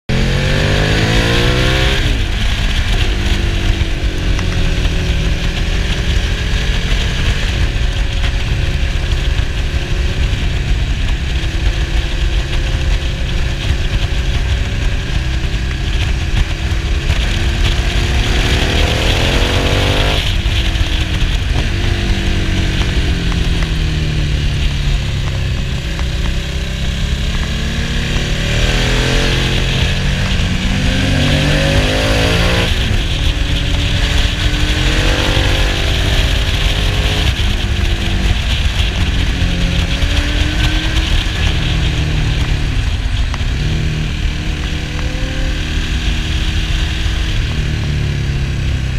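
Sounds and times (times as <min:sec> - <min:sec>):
motorcycle engine revving: 0:00.0 - 0:48.9
wind rush on microphone: 0:00.1 - 0:48.9.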